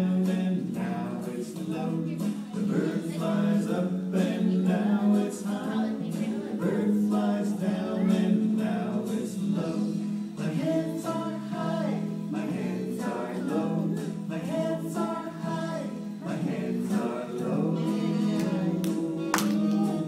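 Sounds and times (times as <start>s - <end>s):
steady music: 0.0s - 20.0s
voices singing together: 0.0s - 20.0s.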